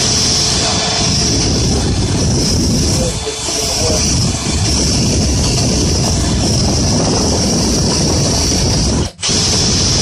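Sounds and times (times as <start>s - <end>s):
electric drill boring: 0.0s - 10.0s.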